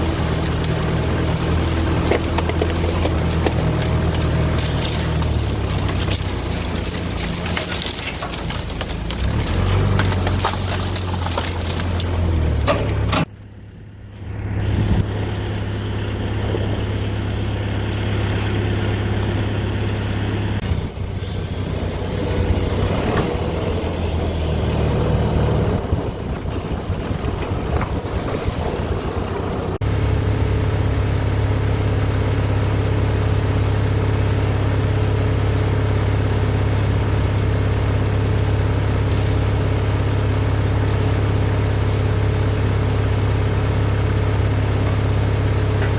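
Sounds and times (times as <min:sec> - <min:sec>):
logging machine engine running: 0:00.0 - 0:45.9.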